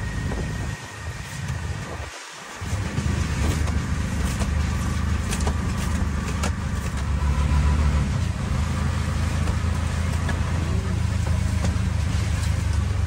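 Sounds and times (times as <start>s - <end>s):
auto-rickshaw engine running: 0.0s - 2.0s, 2.6s - 13.0s
rain on wet road hissing: 0.8s - 13.0s.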